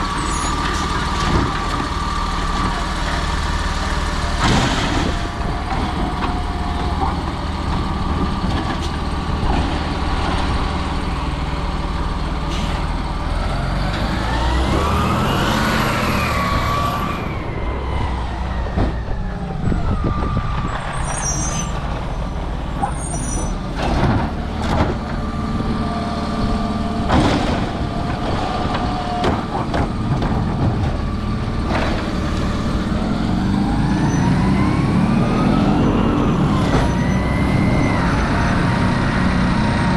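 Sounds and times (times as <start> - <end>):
truck engine and hydraulics whining: 0.0 - 39.9.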